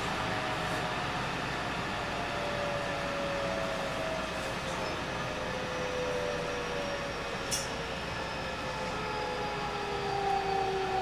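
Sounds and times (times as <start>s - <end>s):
train wheel and rail noise: 0.0s - 11.0s.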